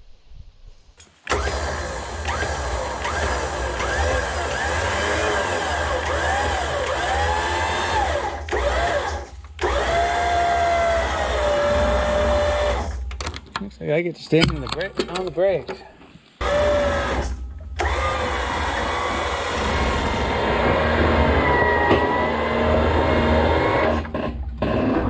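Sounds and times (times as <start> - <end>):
electric winch motor whining: 1.3 - 13.1, 16.4 - 25.0.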